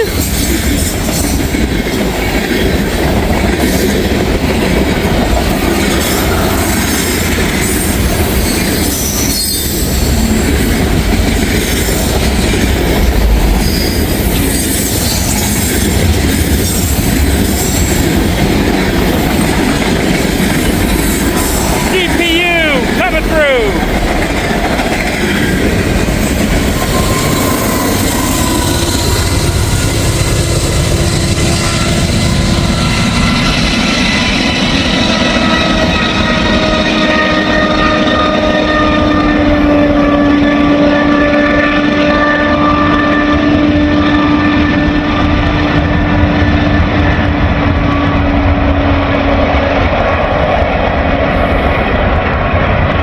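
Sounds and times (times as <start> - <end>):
diesel locomotive drone: 0.0 - 53.0
freight train rumbling and rattling: 0.0 - 53.0.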